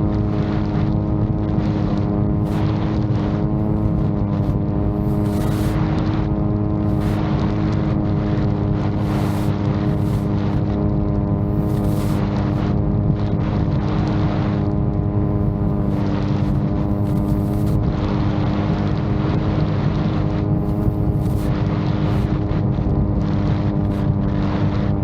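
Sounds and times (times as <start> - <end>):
drone propellers running: 0.0 - 25.0
wind gusting against microphone: 0.0 - 25.0.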